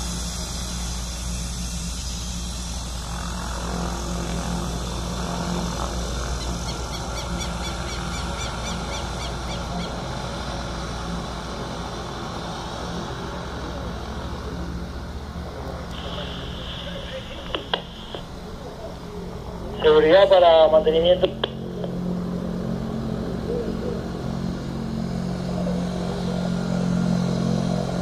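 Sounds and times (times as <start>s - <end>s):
turboprop engine running: 0.0s - 28.0s.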